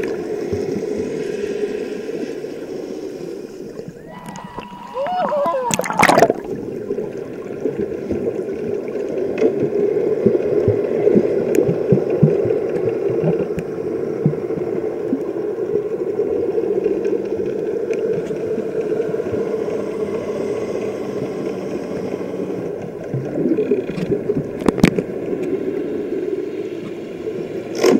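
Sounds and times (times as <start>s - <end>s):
faint steady drone: 0.0s - 5.0s, 6.3s - 27.8s
muffled underwater hum: 0.2s - 27.6s.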